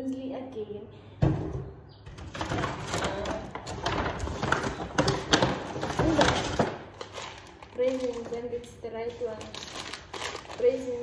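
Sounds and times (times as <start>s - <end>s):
packaging rustling and crinkling: 2.1s - 11.0s.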